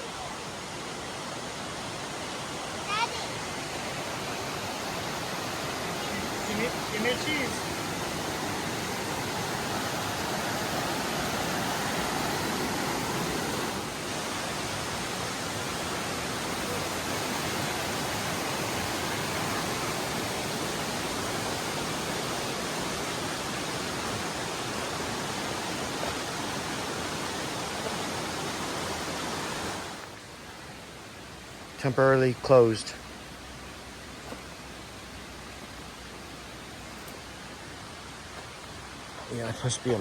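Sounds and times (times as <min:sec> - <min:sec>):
creek water flowing: 0:00.0 - 0:40.0.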